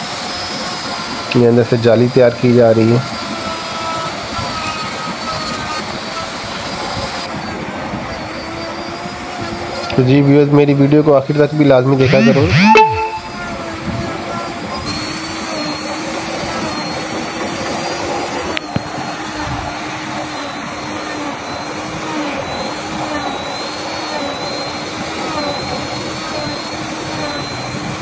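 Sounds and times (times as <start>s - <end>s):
wood router whining: 0.0s - 10.5s, 11.3s - 28.0s.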